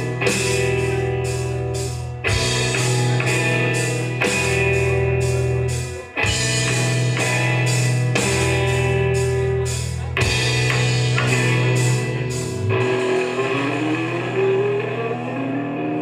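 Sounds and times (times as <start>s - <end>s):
drums with cymbal hits: 0.0s - 14.8s
electric guitar chords: 0.0s - 16.0s.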